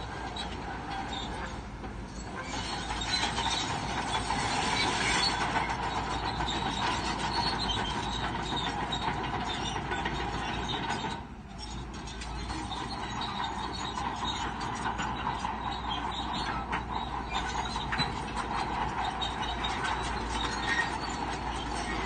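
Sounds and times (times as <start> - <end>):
bulldozer engine running: 0.0 - 22.0
steel tracks squealing and clattering: 0.0 - 22.0.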